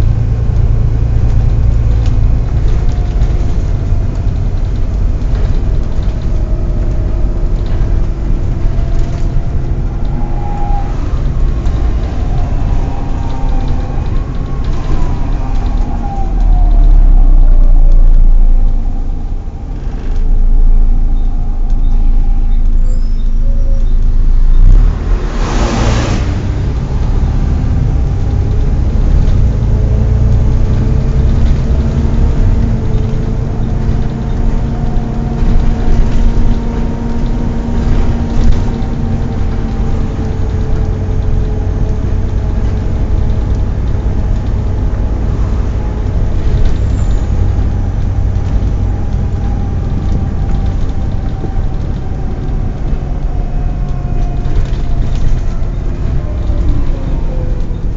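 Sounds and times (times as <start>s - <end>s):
diesel bus engine rumble: 0.0s - 57.9s
engine cooling fan whine: 0.0s - 57.9s.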